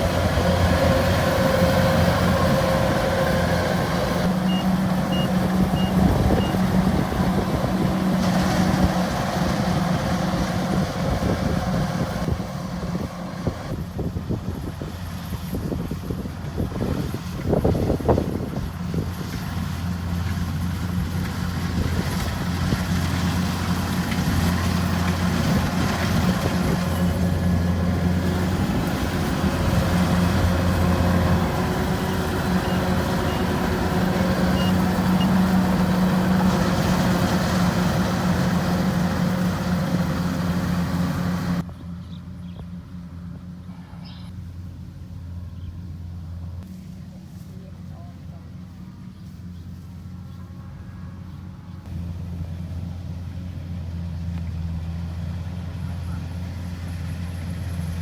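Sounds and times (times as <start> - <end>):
harvester diesel engine running: 0.0 - 58.0.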